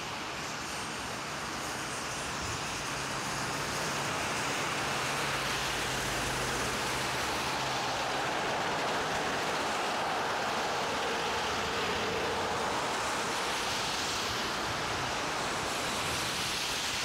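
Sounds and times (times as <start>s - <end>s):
road traffic rush: 0.0s - 17.0s.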